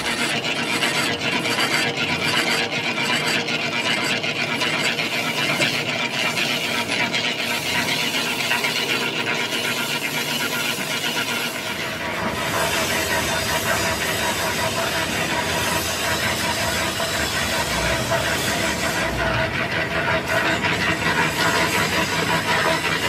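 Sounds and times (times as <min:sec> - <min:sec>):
lathe cutting metal scrape: 0:00.0 - 0:23.0.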